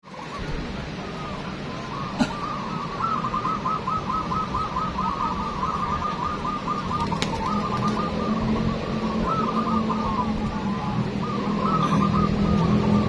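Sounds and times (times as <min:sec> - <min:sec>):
doves cooing: 0:00.1 - 0:13.0.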